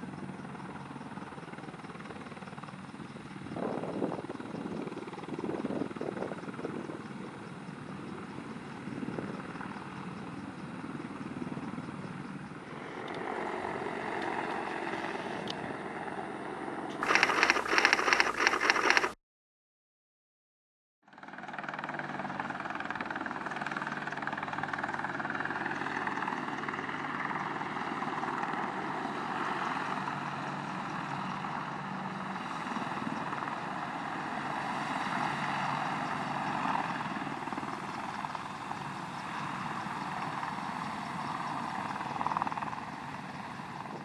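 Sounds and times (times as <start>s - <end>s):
helicopter turbine and rotor noise: 0.0s - 19.2s, 21.0s - 44.0s.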